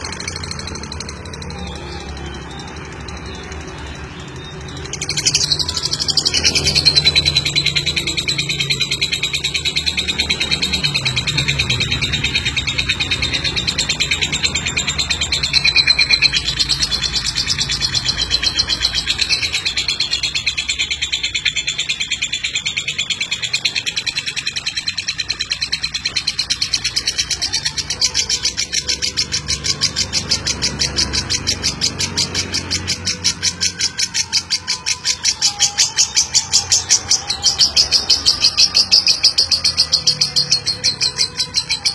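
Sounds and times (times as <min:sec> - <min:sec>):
lovebird chattering trills: 0:00.0 - 0:41.9.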